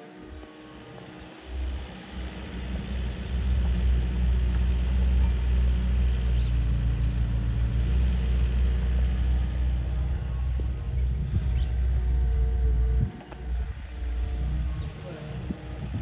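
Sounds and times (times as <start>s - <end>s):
excavator diesel engine rumbling: 0.0s - 16.0s.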